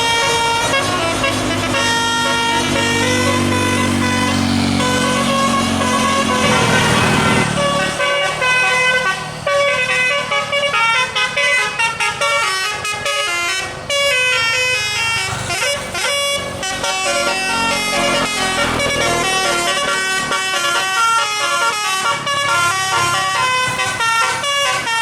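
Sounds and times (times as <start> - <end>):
bus engine running: 0.0 - 25.0
bus musical air horn melody: 0.0 - 25.0.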